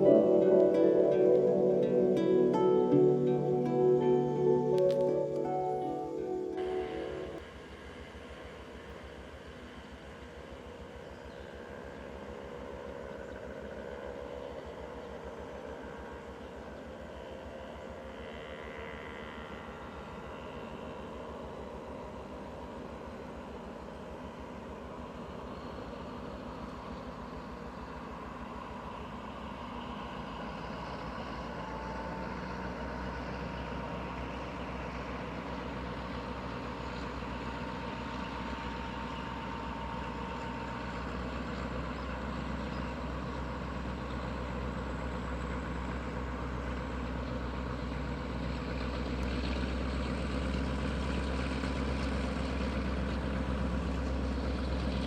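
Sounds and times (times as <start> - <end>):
diesel train engine humming: 0.0 - 55.0.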